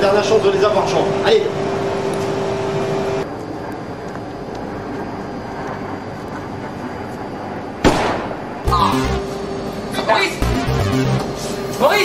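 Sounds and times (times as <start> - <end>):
standing train rumble: 0.0 - 12.0
two-tone steady hum: 0.0 - 12.0.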